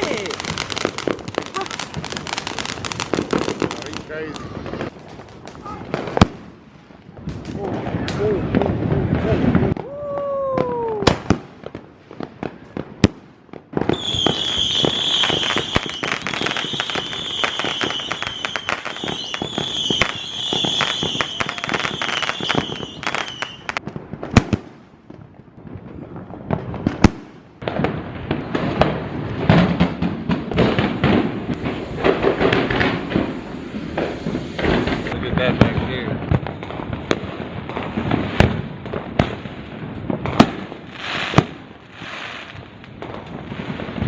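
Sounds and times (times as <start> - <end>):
firecrackers popping and crackling: 0.0 - 44.0.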